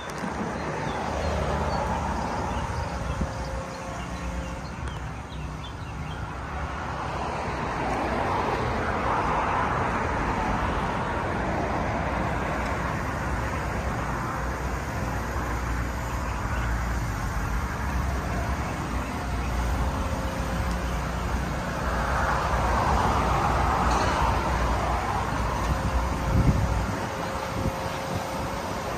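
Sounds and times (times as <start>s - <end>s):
rumble of passing cars: 0.0s - 28.9s.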